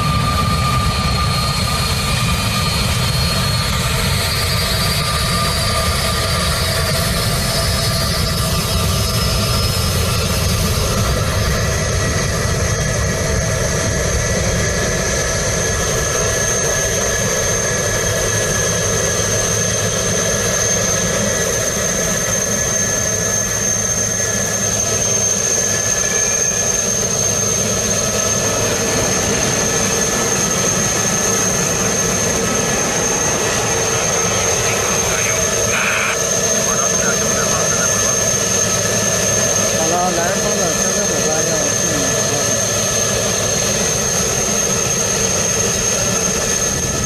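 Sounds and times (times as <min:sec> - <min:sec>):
jet engine rumble: 0:00.0 - 0:47.0
jet engine whine: 0:00.0 - 0:47.0.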